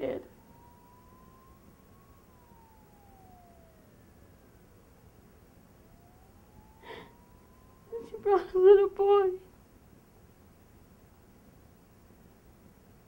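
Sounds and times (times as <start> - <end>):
faint distant police siren wailing: 0.0 - 13.0.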